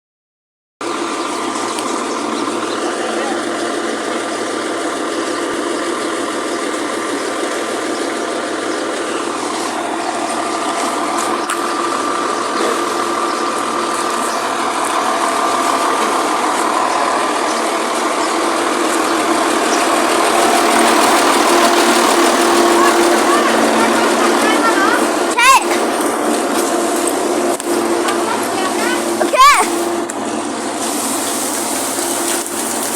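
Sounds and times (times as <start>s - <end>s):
cement mixer whine and clatter: 0.8s - 32.9s.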